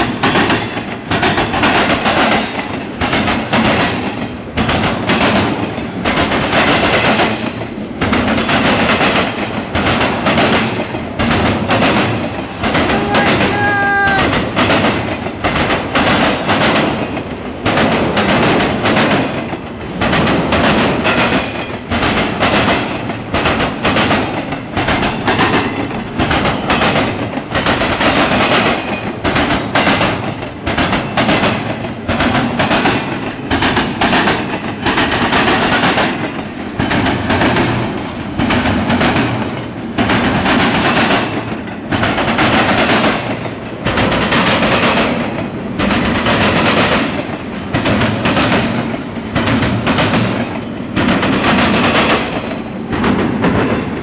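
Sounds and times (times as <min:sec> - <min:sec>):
freight train wheels clacking: 0:00.0 - 0:54.0.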